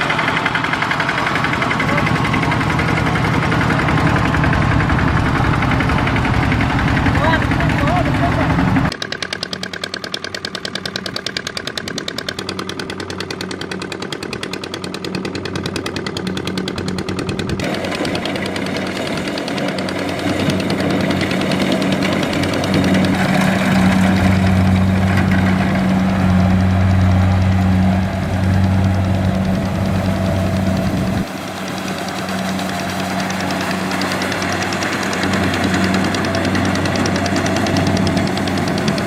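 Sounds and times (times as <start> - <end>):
farm machine engine chugging: 0.0 - 39.0.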